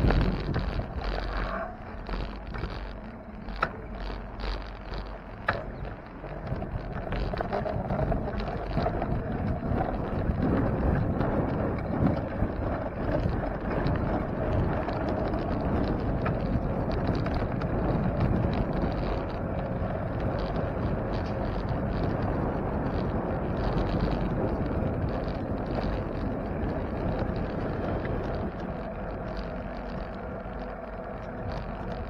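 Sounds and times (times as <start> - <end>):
bicycle tyres rolling on road: 0.0 - 32.0
wind buffeting microphone: 0.0 - 32.0.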